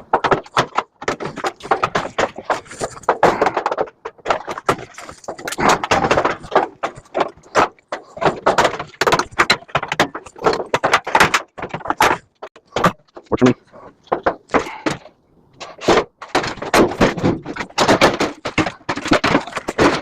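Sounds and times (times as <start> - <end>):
metal parts and tools clanking: 0.0 - 20.0.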